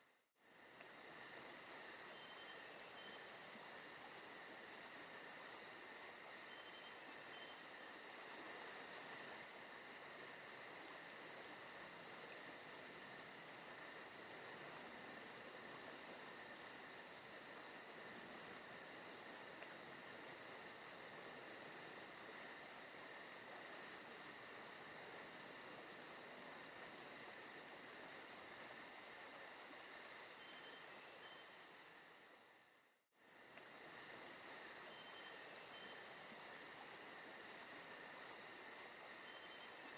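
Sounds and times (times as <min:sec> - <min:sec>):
faint hiss: 0:00.0 - 0:39.9
crickets and insects chirring: 0:00.4 - 0:39.9.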